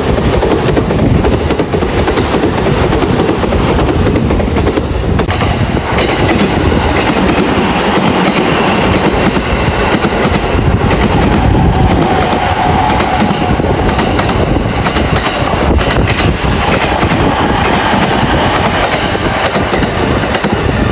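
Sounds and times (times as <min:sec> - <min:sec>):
train wheels clickety-clack: 0:00.0 - 0:20.9.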